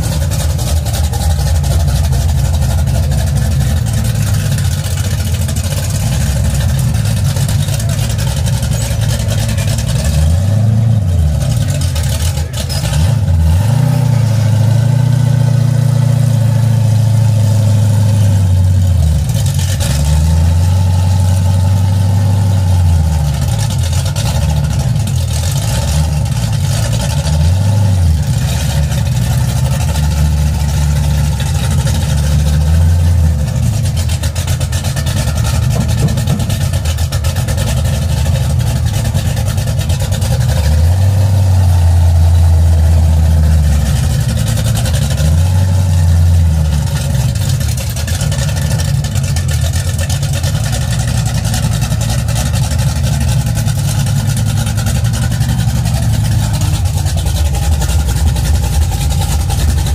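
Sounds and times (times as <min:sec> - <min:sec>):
pickup truck engine revving: 0:00.0 - 0:59.9.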